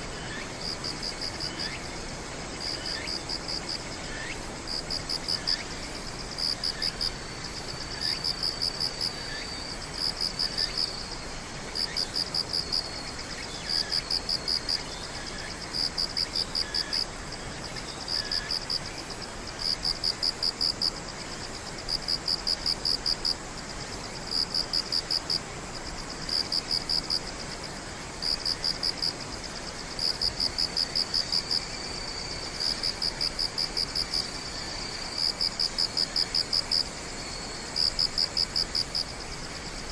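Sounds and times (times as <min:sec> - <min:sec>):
cricket chirping trills: 0:00.0 - 0:39.9
high insect drone: 0:00.0 - 0:39.9.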